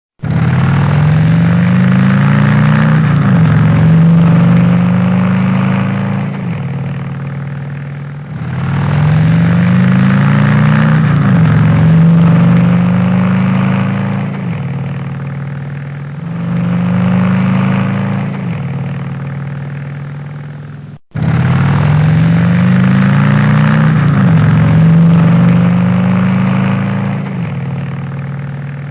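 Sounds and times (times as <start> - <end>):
motorcycle engine accelerating: 0.2 - 28.9.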